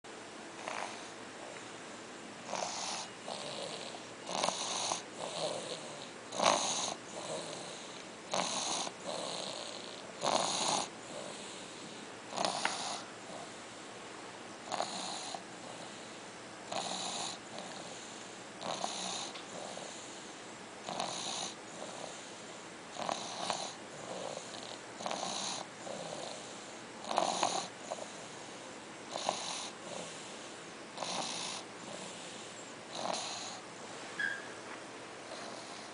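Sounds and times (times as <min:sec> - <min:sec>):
snoring: 0:00.6 - 0:01.2, 0:02.4 - 0:13.6, 0:14.6 - 0:16.1, 0:16.7 - 0:20.2, 0:20.8 - 0:33.6, 0:35.2 - 0:35.9.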